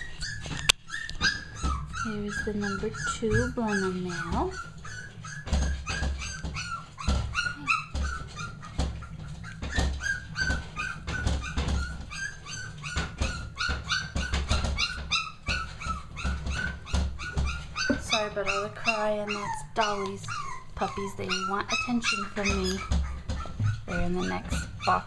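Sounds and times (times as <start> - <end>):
puppies crying and whining: 0.0 - 25.0.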